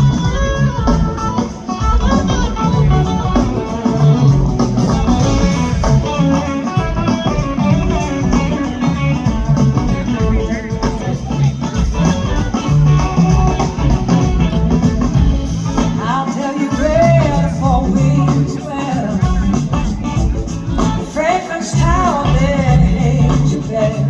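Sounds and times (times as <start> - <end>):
bass guitar: 0.0 - 24.0
electric guitar: 0.0 - 24.0.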